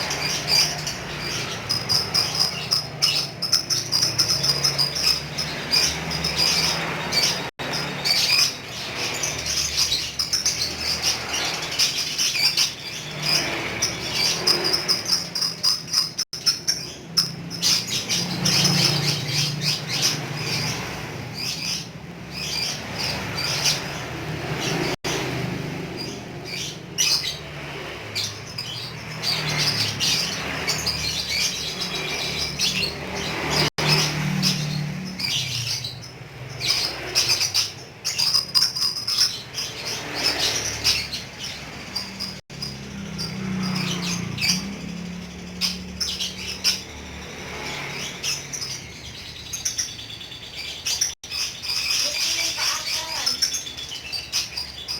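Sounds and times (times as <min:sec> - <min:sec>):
bird chattering shrill chirps: 0:00.0 - 0:24.9, 0:28.2 - 0:54.9.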